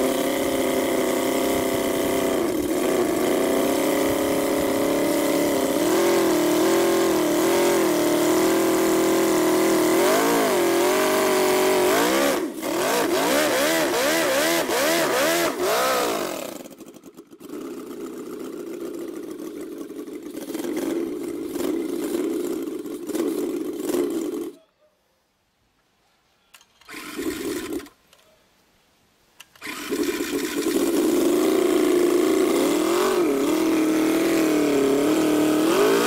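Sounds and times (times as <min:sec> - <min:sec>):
model engine idling and revving: 0:00.0 - 0:24.6, 0:26.9 - 0:28.0, 0:29.6 - 0:36.0.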